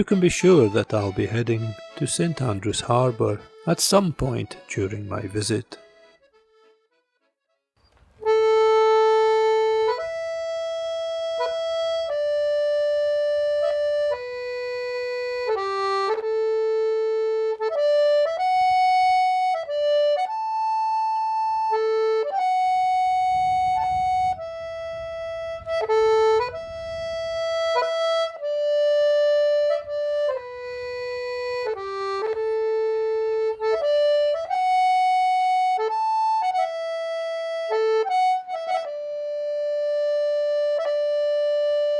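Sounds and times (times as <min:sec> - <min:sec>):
slow reedy melody: 0:00.0 - 0:07.3, 0:07.9 - 0:41.9.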